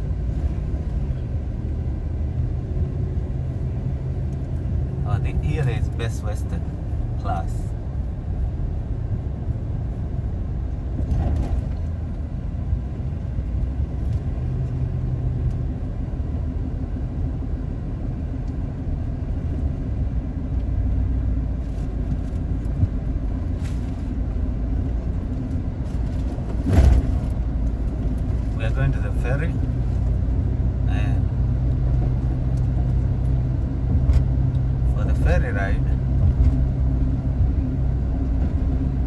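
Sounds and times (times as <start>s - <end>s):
car driving rumble: 0.0s - 39.0s.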